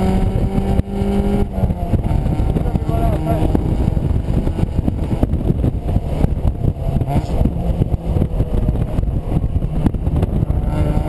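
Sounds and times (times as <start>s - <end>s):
car engine running under load: 0.0s - 11.0s
wind rushing: 0.0s - 11.0s.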